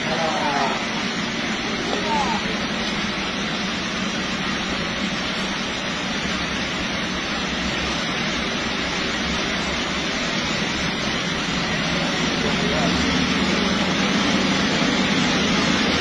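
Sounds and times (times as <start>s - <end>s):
heavy rain falling: 0.0s - 16.0s
truck engines running: 0.0s - 16.0s.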